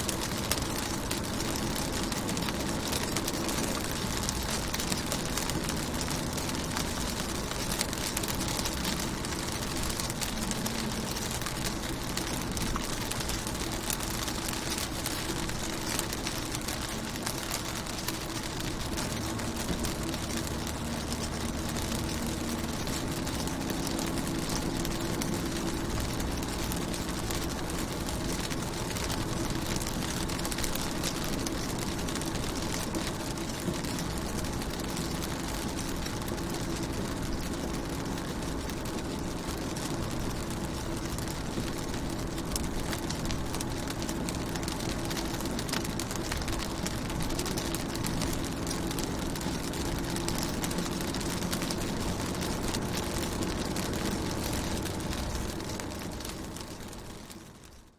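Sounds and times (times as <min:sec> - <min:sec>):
low steady hum: 0:00.0 - 0:57.9
rain on car windows: 0:00.0 - 0:57.9.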